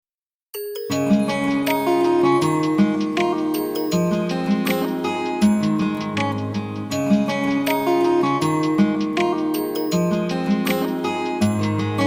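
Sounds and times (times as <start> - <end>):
bell-like note: 0.6 - 12.0
light instrumental tune with mallets: 0.6 - 12.0.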